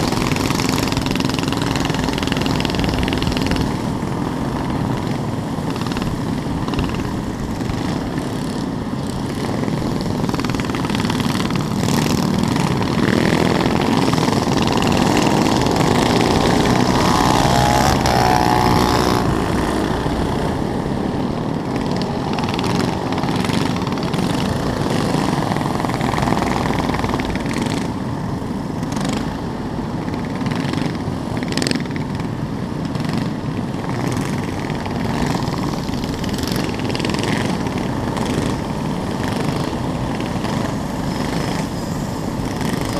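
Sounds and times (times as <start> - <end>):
mini bike engines running: 0.0 - 42.9.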